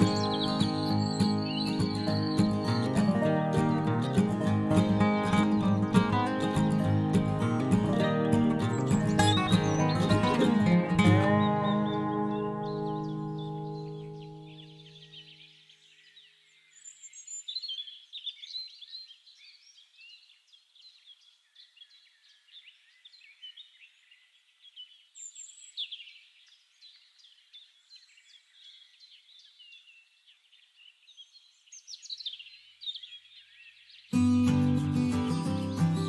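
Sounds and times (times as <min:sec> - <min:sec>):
songbirds chirping and trilling: 0:00.0 - 0:36.0.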